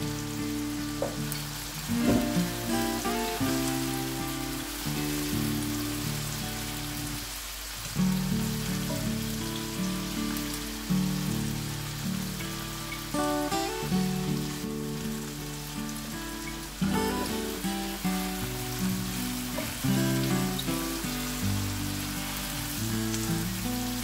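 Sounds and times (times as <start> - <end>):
instrumental music: 0.0 - 24.0
vegetables sizzling in oil: 0.0 - 24.0.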